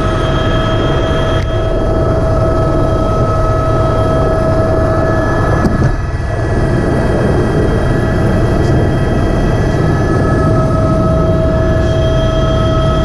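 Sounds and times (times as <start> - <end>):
helicopter turbine and rotor rumble: 0.0 - 13.0
high whining tones: 0.0 - 13.0.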